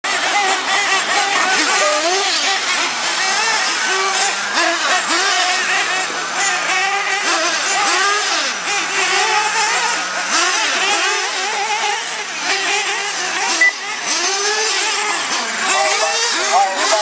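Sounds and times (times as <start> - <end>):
rc truck engines revving: 0.0 - 17.0.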